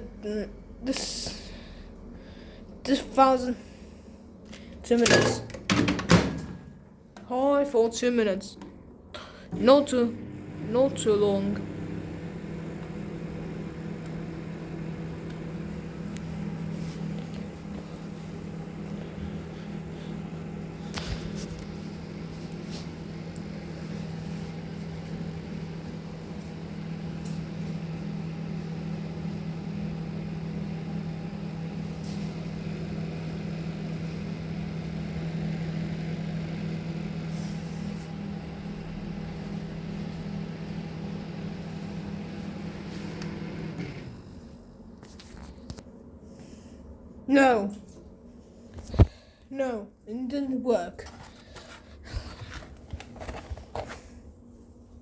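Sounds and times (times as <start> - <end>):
microwave oven humming: 0.2 - 45.0.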